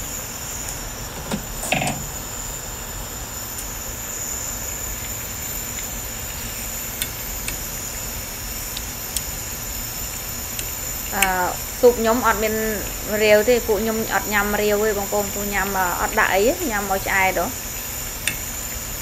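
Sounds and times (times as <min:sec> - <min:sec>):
soup boiling and bubbling: 0:00.0 - 0:19.0.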